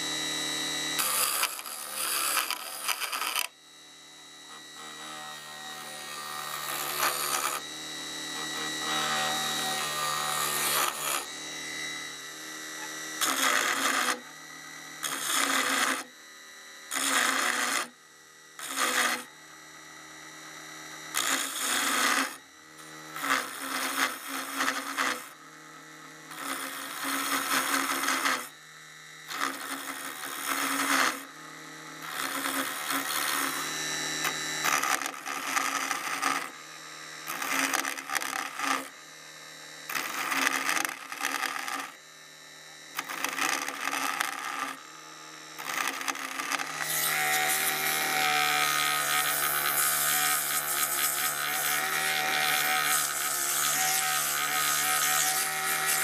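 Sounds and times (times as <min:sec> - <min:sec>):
chisel scraping spinning wood: 0:00.0 - 0:03.5, 0:04.6 - 0:12.0, 0:12.8 - 0:14.3, 0:15.0 - 0:16.1, 0:16.9 - 0:17.9, 0:18.6 - 0:19.3, 0:21.1 - 0:25.4, 0:26.3 - 0:28.6, 0:29.3 - 0:36.6, 0:37.3 - 0:39.0, 0:39.9 - 0:42.0, 0:43.0 - 0:44.8, 0:45.6 - 0:56.0
lathe motor hum: 0:00.0 - 0:56.0.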